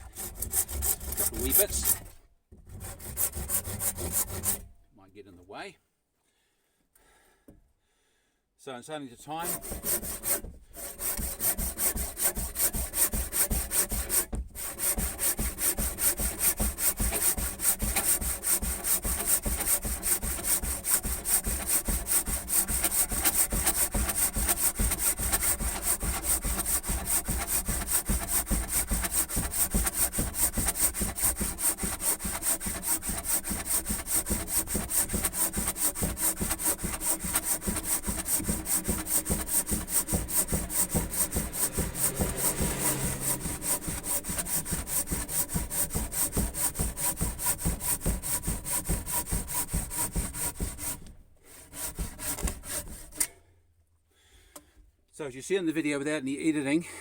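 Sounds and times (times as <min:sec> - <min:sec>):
handsaw cutting wood: 0:00.0 - 0:04.8, 0:09.2 - 0:53.4.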